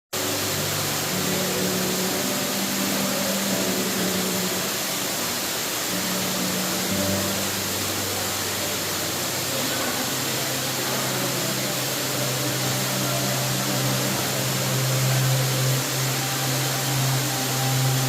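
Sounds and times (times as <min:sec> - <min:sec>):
waterfall rushing: 0:00.2 - 0:18.0.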